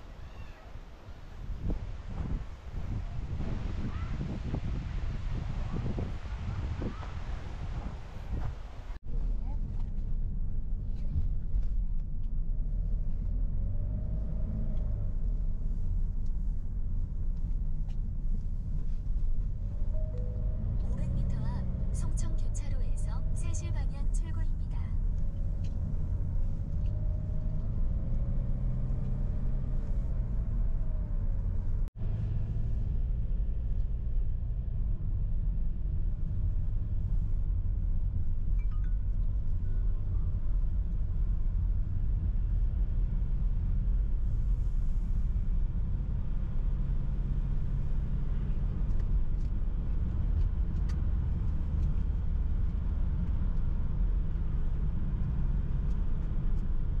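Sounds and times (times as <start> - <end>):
car interior road and engine noise: 0.0 - 57.0.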